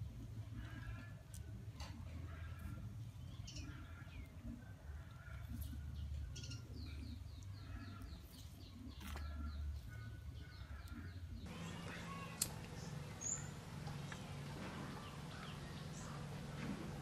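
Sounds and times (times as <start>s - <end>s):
birds chirping: 2.1s - 17.0s.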